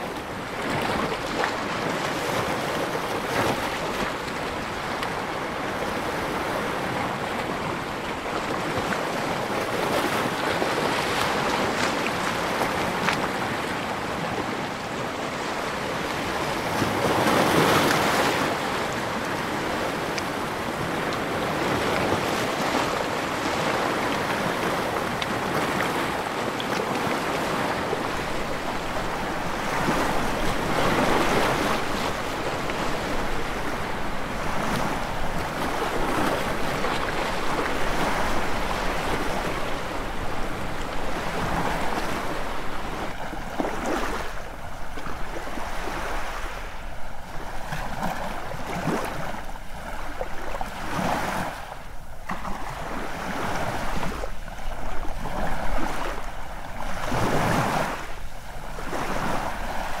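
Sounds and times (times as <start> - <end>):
ocean waves breaking on beach: 0.0 - 60.0.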